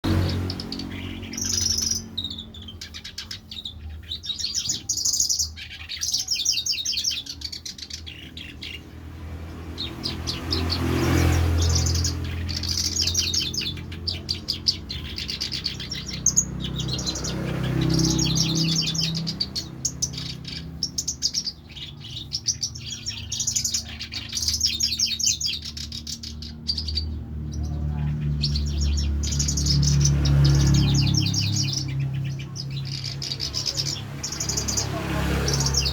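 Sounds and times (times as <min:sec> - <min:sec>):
songbird chirping and twittering: 0:00.0 - 0:35.9.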